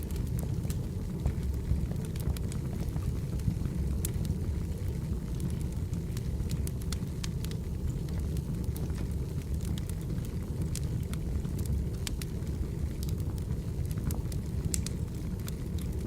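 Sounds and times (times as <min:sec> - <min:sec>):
firewood crackling and popping: 0:00.0 - 0:16.0
low rumble of flames: 0:00.0 - 0:16.0.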